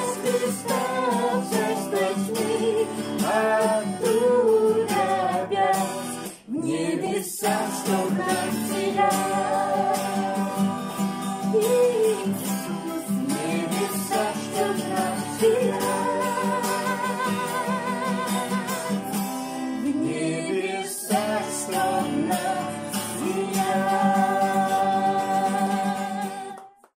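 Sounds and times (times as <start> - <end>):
instrumental accompaniment: 0.0 - 26.5.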